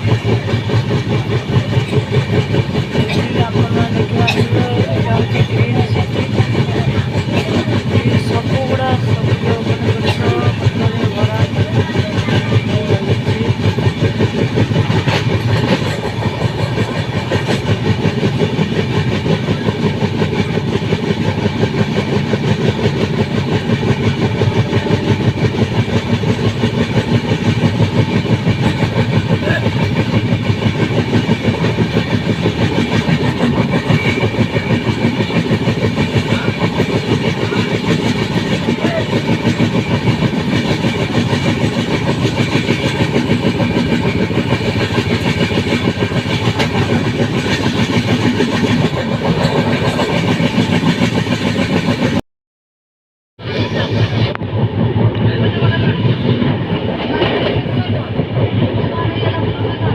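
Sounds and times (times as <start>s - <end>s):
train rumbling and clattering: 0.0s - 52.2s, 53.4s - 59.9s.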